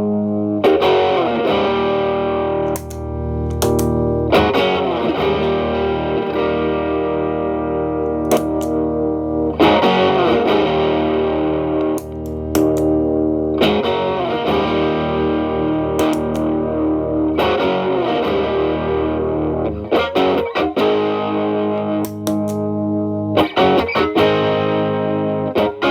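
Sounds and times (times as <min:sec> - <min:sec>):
electric guitar chords ringing: 0:00.0 - 0:25.9.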